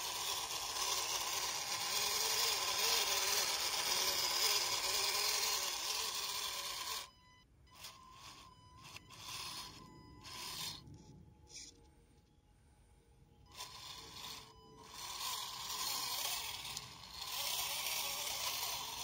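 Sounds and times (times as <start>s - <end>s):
electric motor whining: 0.0s - 10.9s, 13.5s - 19.0s.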